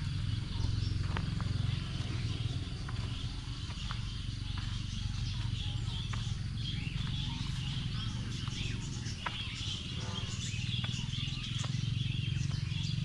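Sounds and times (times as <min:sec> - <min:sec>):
birds chirping and warbling: 0:00.0 - 0:13.0
low rumble: 0:00.0 - 0:13.0.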